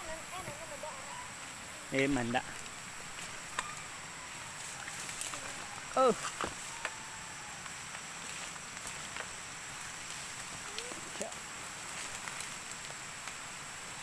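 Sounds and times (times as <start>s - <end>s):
footsteps crackling through brush: 0.0s - 14.0s
high background hiss: 0.0s - 14.0s.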